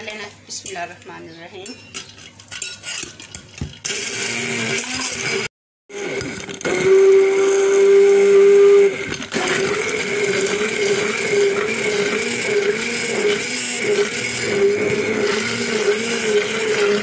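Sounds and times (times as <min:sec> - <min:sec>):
hand blender motor whining: 0:02.8 - 0:17.0.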